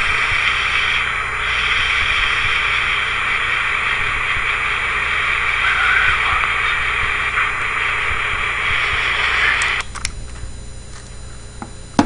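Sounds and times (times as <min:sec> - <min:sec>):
low hum: 0:00.0 - 0:12.0
recorder background hiss: 0:00.0 - 0:12.0.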